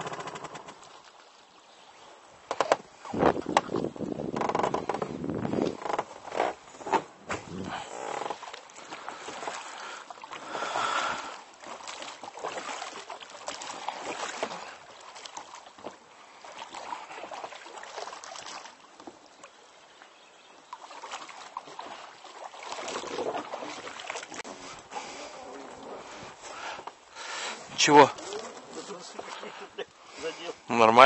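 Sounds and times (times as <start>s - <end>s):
oars swishing and splashing: 0.0s - 31.0s.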